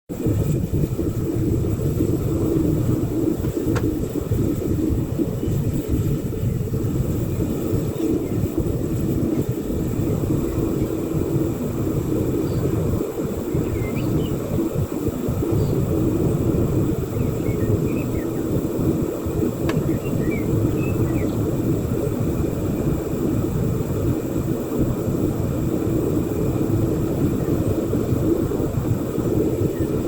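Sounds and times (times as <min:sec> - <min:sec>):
furnace burner rumbling: 0:00.1 - 0:30.0.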